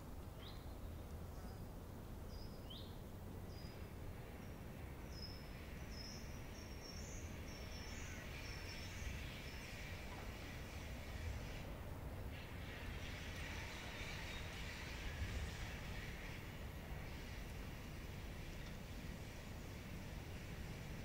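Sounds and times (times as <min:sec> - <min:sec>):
steady low background noise: 0:00.0 - 0:21.0.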